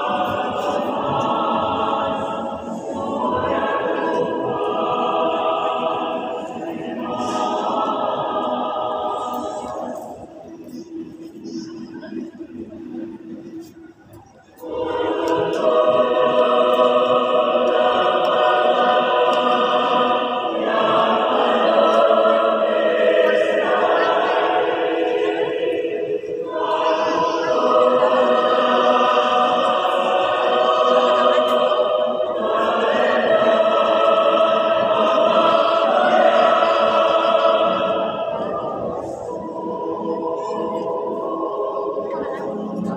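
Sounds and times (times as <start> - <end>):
choir singing in harmony: 0.0 - 13.8, 14.5 - 42.9.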